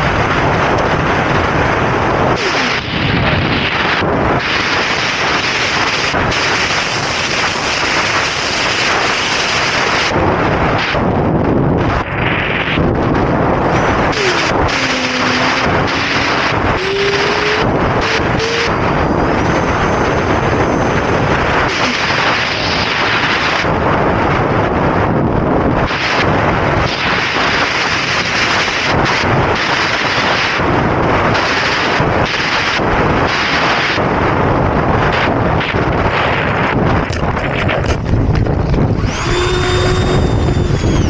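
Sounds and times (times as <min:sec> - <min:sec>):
electric ducted fan whine: 0:00.0 - 0:41.0
wind rushing over camera: 0:00.0 - 0:41.0.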